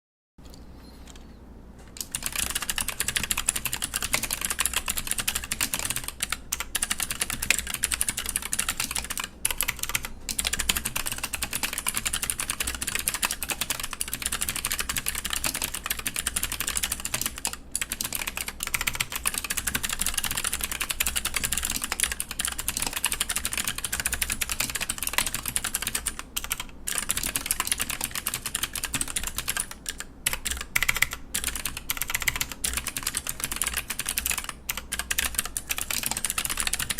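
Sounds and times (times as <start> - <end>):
mechanical keyboard typing: 2.0 - 36.9.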